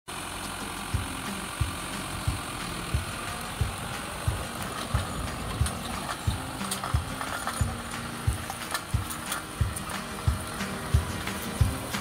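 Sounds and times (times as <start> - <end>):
tractor engine running: 0.1 - 12.0
low regular thumps: 0.9 - 12.0.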